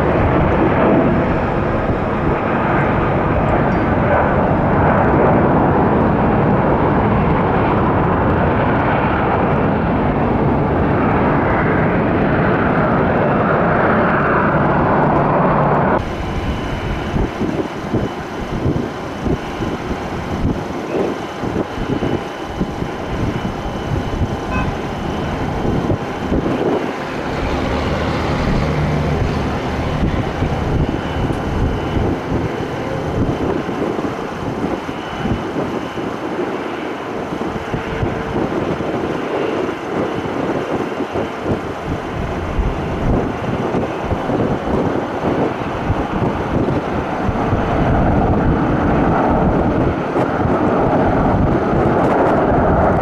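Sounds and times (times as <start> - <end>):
jet engines rumbling: 0.0 - 53.0
wind buffeting microphone: 0.0 - 53.0.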